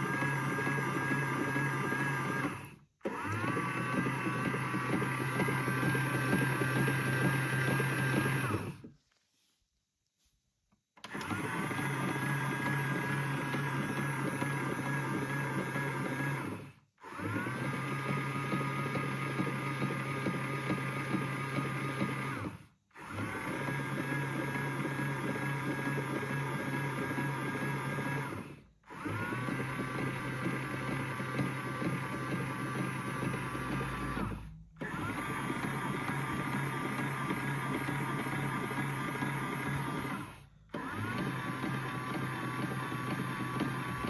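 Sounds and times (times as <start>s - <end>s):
toy washing machine motor whirring: 0.0s - 9.0s, 11.0s - 44.0s.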